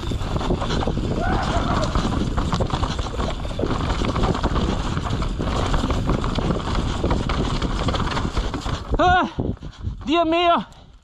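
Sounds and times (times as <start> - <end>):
tyres on rock and dirt: 0.0 - 10.6
bike rattling and knocking: 0.0 - 10.7
wind rumble on microphone: 0.0 - 11.0.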